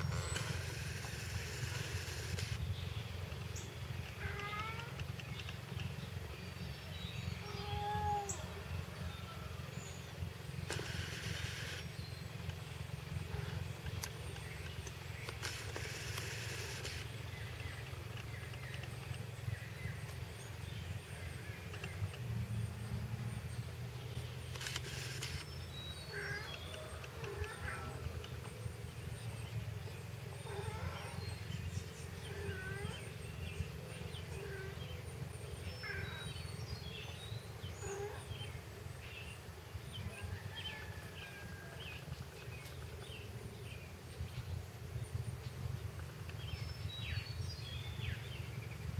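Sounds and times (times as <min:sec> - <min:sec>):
small birds chirping: 0:00.0 - 0:48.9
steady low hum: 0:00.0 - 0:48.9.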